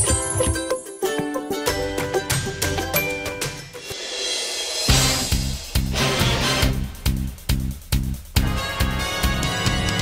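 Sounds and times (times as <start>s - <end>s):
upbeat intro music: 0.0s - 10.0s.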